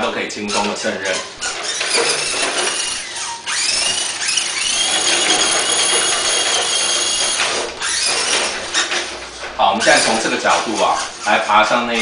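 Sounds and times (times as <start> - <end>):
electric motor and gearbox whining: 0.0 - 12.0.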